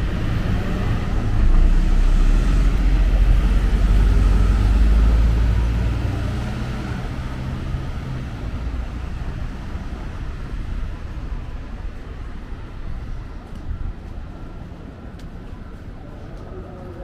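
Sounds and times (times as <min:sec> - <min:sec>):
street traffic: 0:00.0 - 0:17.0
vehicle engine drone: 0:00.0 - 0:17.0.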